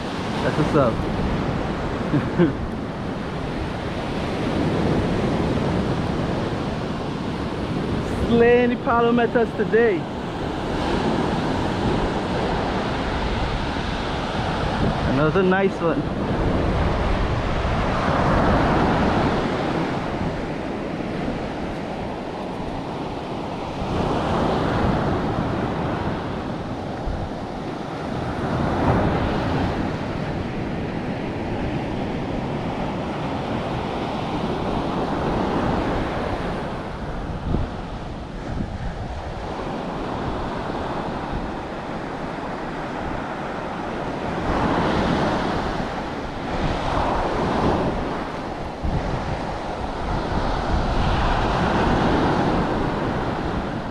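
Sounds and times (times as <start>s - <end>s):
ocean surf breaking on beach: 0.0s - 53.9s
wind buffeting microphone: 0.0s - 53.9s.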